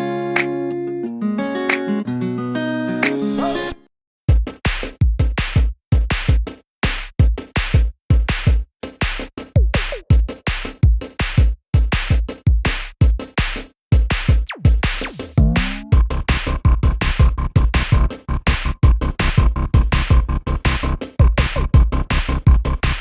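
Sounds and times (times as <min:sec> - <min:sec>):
electronic music with drum-machine beat: 0:03.0 - 0:23.0.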